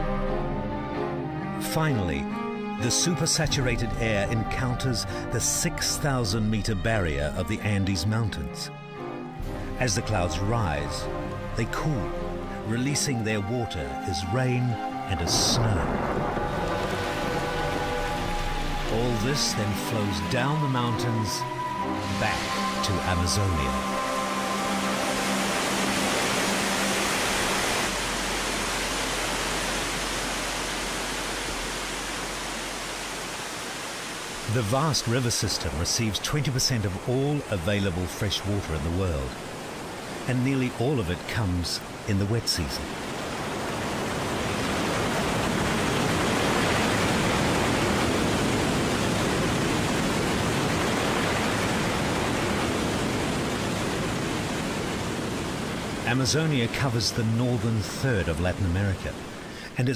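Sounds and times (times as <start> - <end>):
waterfall rushing: 9.2 - 59.9.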